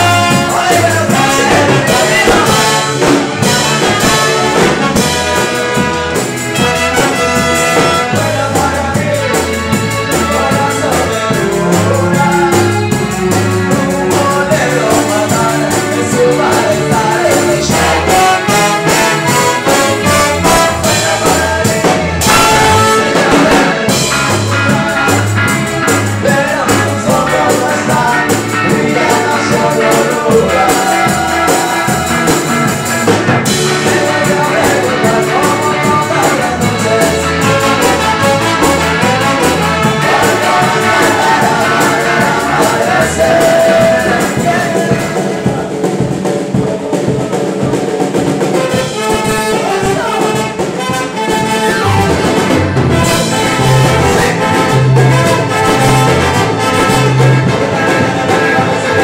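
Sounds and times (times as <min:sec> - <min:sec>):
bass beat: 0:00.0 - 0:59.0
electric guitars: 0:00.0 - 0:59.0
keyboard: 0:00.0 - 0:59.0
live band playing: 0:00.0 - 0:59.0
person singing: 0:00.0 - 0:59.0.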